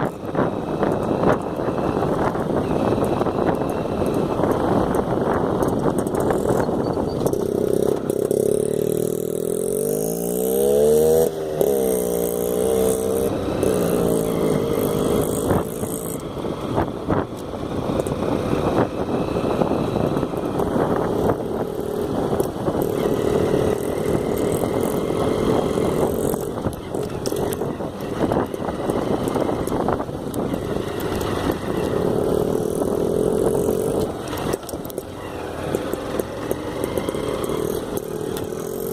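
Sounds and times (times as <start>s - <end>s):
motorcycle engine revving: 0.0s - 38.9s
riding wind noise: 0.0s - 38.9s.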